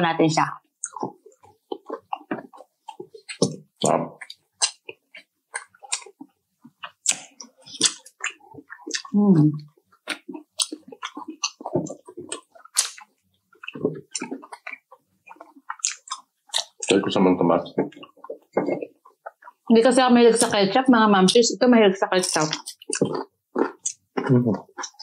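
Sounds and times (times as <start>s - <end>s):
chewing fried chicken: 0.6s - 20.6s, 22.2s - 25.0s.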